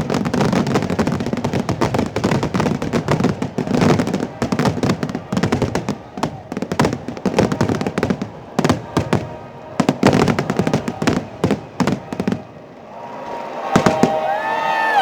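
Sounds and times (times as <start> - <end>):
fireworks bangs and crackles: 0.0 - 14.5
whistling firework tone: 0.0 - 15.0.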